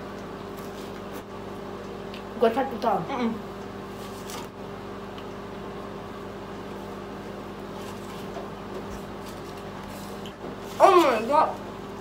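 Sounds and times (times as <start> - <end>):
appliance electrical hum: 0.0 - 12.0.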